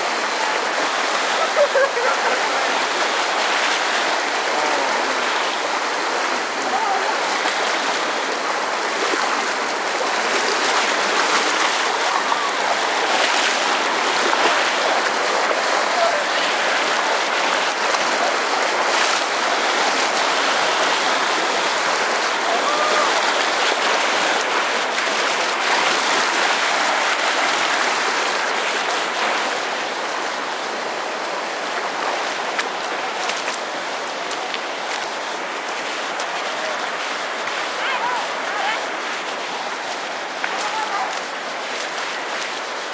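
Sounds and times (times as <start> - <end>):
river rushing over rocks: 0.0 - 42.9
feet splashing in water: 0.4 - 29.8, 31.2 - 42.9.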